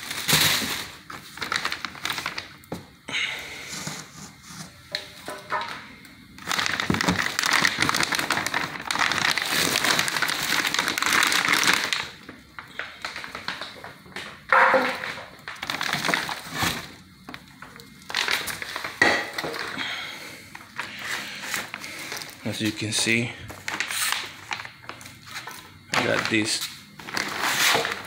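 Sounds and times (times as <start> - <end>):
plastic wrap crinkling: 0.0 - 28.0.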